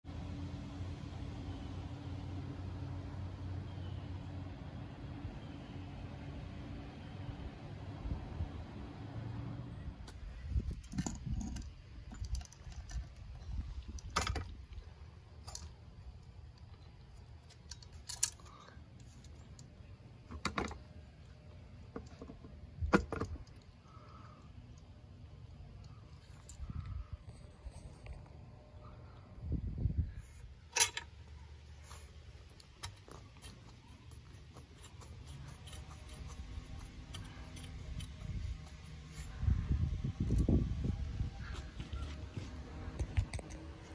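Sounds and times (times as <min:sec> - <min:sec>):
low steady rumble: 0:00.1 - 0:43.9.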